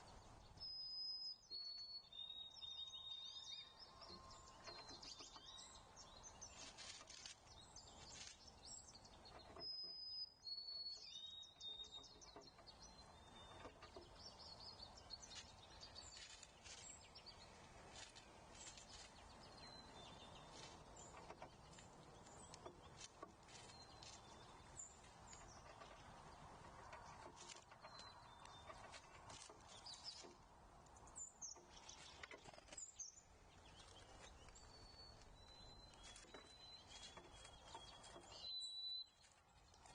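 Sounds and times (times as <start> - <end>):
soft outdoor hiss: 0.0 - 39.9
songbirds chirping: 0.0 - 39.9.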